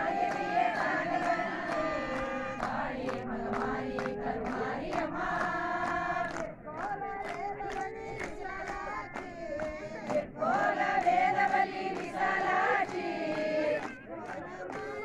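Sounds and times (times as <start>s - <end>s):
group singing a chant: 0.0s - 15.0s.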